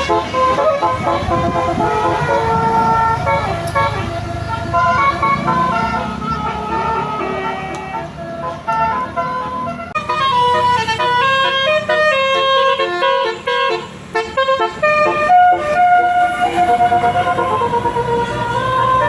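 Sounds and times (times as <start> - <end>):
bus engine rumble: 0.0 - 19.0
multi-tone air horn tune: 0.0 - 19.0.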